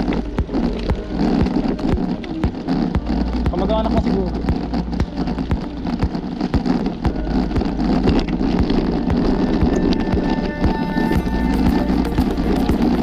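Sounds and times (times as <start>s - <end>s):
tyre rumble on rough asphalt: 0.0s - 13.0s.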